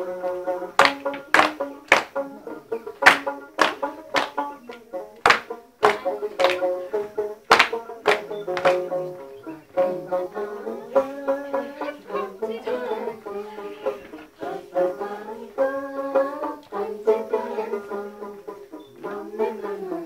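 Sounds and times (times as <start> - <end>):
plucked string instrument melody: 0.0 - 20.0.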